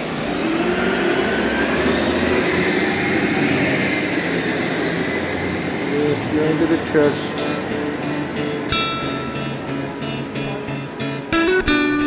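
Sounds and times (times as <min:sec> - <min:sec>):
city street traffic: 0:00.0 - 0:12.0
engine hum rising in pitch: 0:00.0 - 0:12.0.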